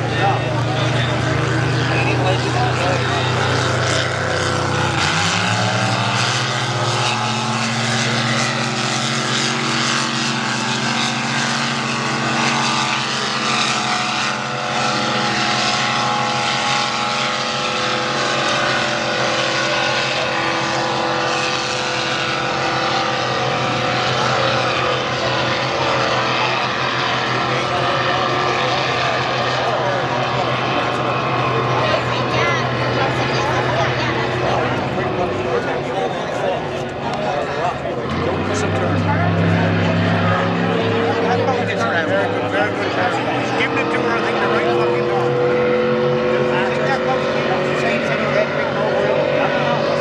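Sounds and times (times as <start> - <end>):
racing boat engines roaring: 0.0 - 50.0.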